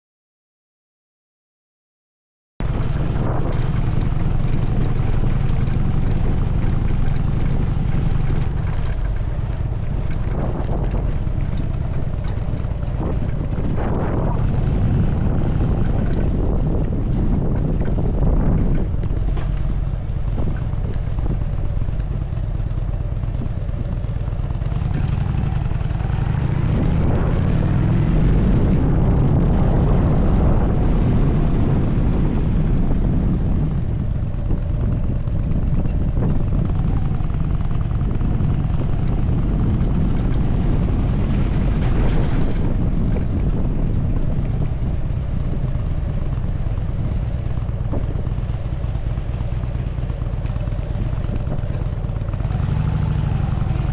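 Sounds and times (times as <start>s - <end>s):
motorcycle engine running: 2.6s - 53.9s
wind rushing over microphone: 2.6s - 53.9s.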